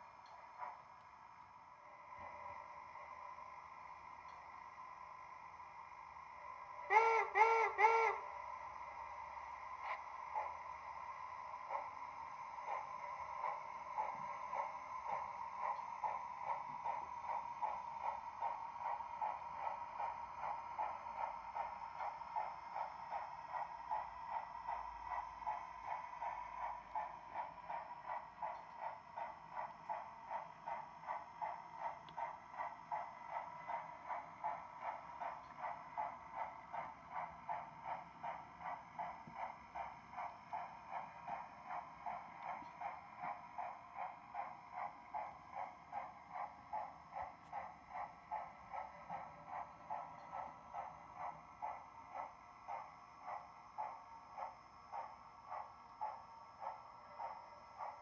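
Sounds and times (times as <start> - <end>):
model train steam chuff: 0.0 - 58.0.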